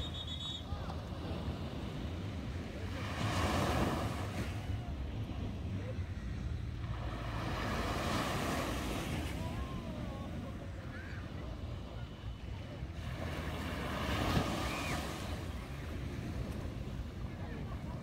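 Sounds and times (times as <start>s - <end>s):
small waves breaking on sand: 0.0s - 18.0s.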